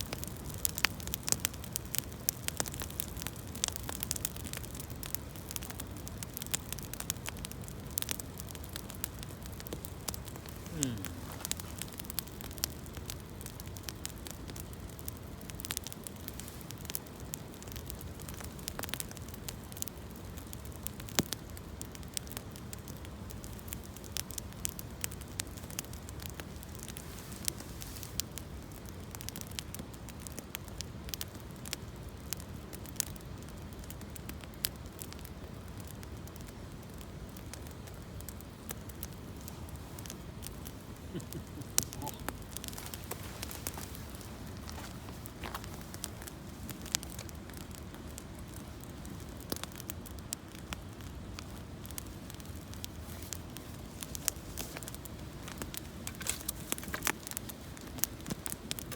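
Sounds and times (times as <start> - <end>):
campfire crackling: 0.0 - 58.9
low rush of fire: 0.0 - 58.9
sharp pops of fire: 0.0 - 58.9.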